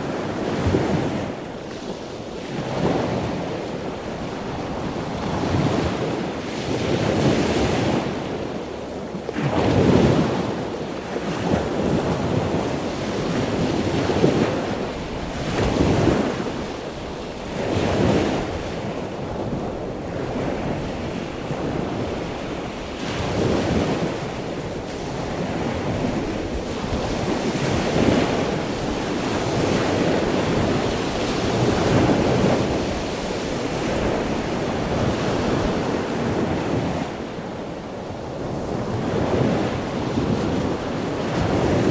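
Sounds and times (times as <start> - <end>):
ocean waves washing ashore: 0.0 - 41.9
wind noise on microphone: 0.0 - 41.9.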